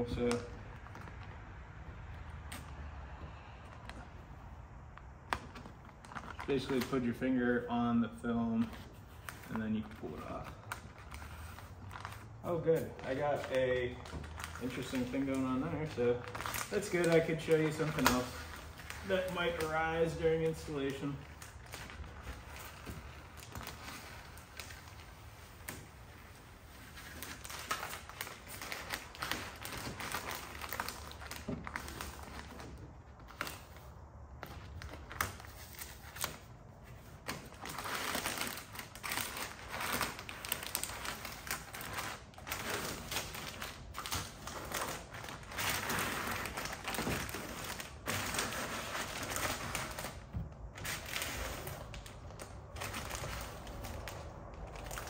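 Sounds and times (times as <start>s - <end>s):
paper peeling crackle: 0.0s - 55.0s.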